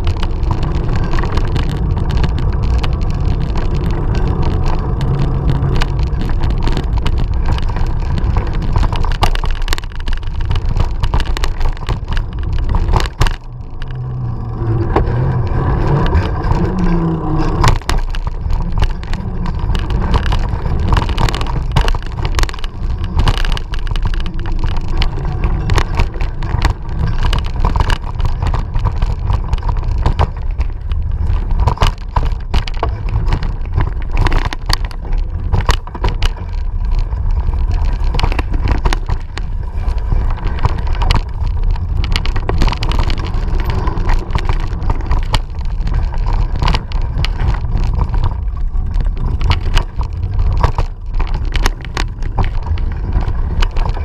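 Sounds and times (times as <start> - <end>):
bike rattling and clicking: 0.0 - 54.0
wind rumble on microphone: 0.0 - 54.0.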